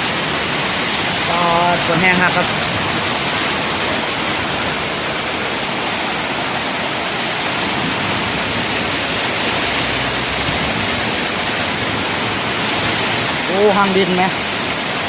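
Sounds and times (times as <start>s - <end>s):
heavy storm rain: 0.0s - 15.0s
strong wind: 0.0s - 15.0s.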